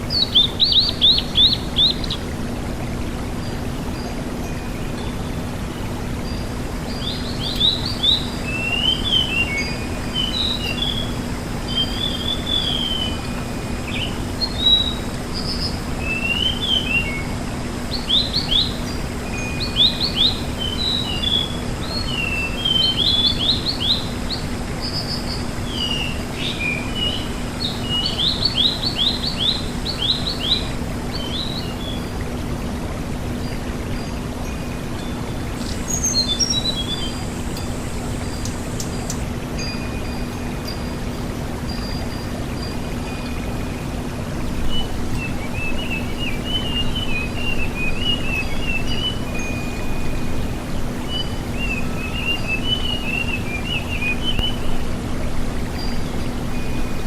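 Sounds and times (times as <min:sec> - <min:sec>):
songbird singing whistles and warbles: 0:00.0 - 0:02.4, 0:03.0 - 0:57.0
steady low hum and hiss: 0:00.0 - 0:57.0.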